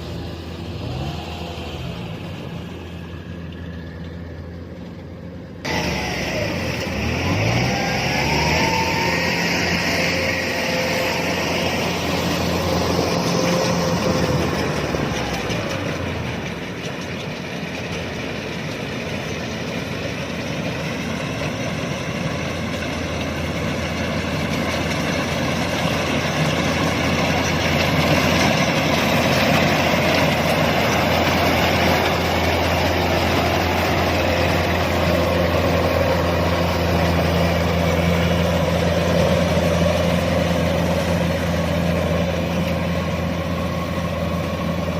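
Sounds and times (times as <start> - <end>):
combine harvester diesel engine drone: 0.0 - 44.9.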